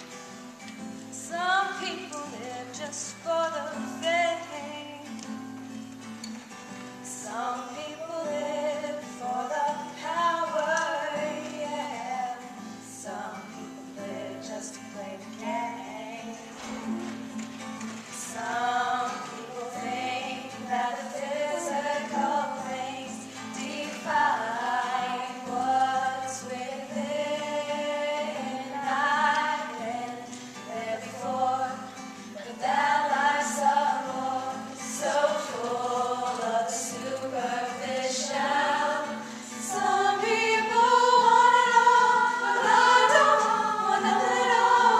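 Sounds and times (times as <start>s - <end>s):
a cappella choir singing: 7.1s - 17.4s, 18.1s - 44.9s.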